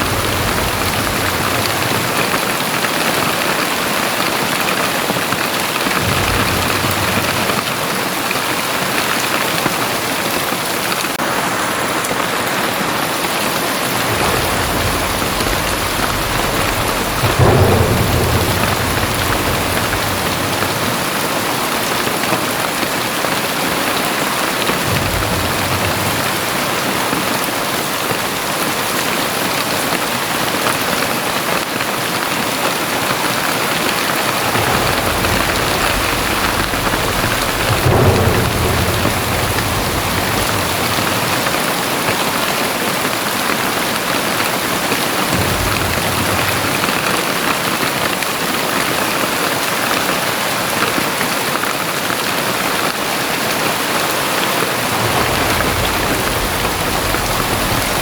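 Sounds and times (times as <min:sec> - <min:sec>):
heavy rain pouring: 0:00.0 - 0:58.0
thunder rumbling: 0:00.0 - 0:58.0.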